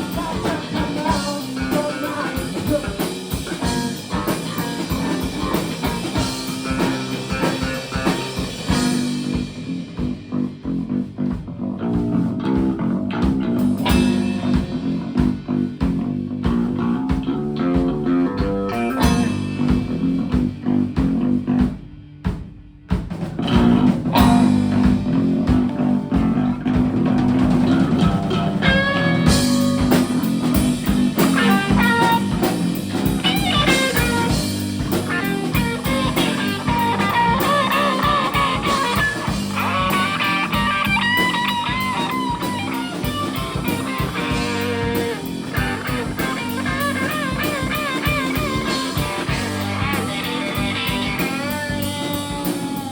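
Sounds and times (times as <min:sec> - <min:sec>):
lead guitar with bent notes: 0:00.0 - 0:21.7, 0:23.3 - 0:52.9
rock band playing: 0:00.0 - 0:52.9.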